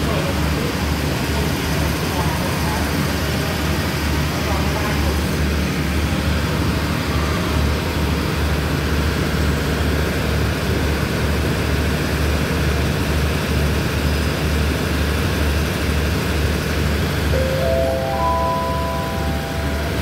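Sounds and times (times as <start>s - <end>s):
diesel train engine idling: 0.0s - 20.0s.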